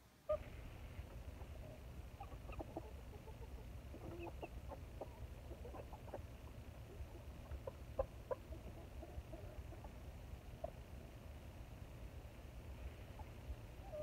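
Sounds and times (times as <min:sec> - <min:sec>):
low steady rumble: 0:00.1 - 0:14.0
hens clucking: 0:00.3 - 0:11.7, 0:12.9 - 0:14.0.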